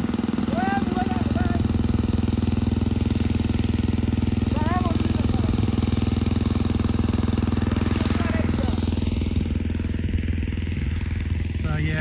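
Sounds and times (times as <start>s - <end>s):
pump engine running: 0.0s - 12.0s.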